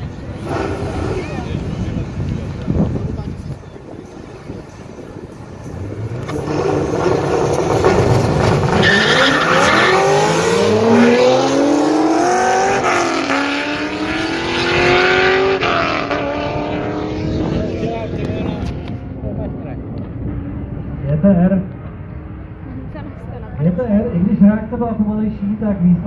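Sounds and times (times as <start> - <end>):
cars accelerating flat out: 0.0 - 23.4.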